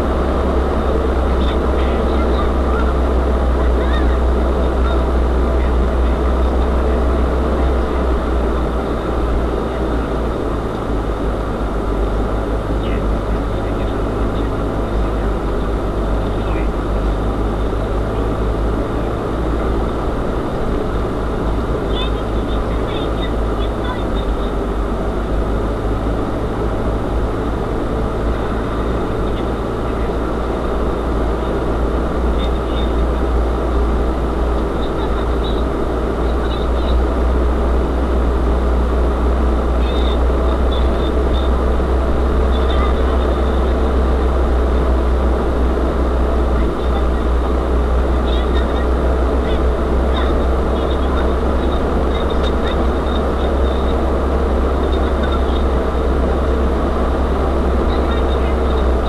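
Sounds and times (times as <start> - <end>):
van engine drone: 0.0 - 59.0.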